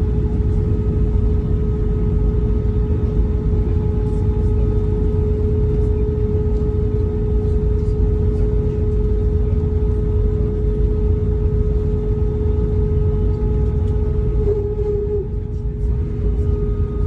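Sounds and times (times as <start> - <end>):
aircraft cabin engine rumble: 0.0 - 17.0
steady whine: 0.0 - 17.0.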